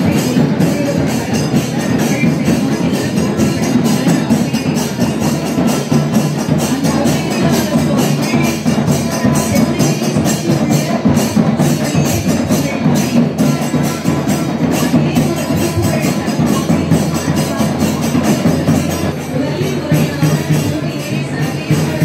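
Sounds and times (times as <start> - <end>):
music with fast steady percussion: 0.0 - 22.0.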